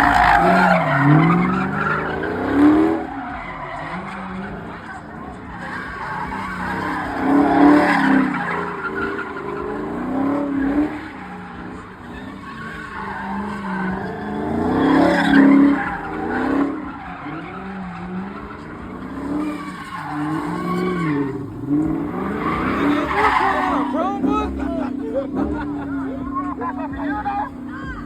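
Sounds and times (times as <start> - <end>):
car engine revving: 0.0 - 28.0
tyres skidding and squealing: 0.0 - 28.0.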